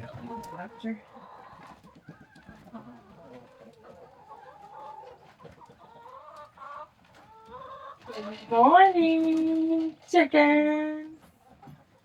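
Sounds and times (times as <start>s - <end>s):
chickens clucking: 0.0s - 10.0s, 11.0s - 12.0s.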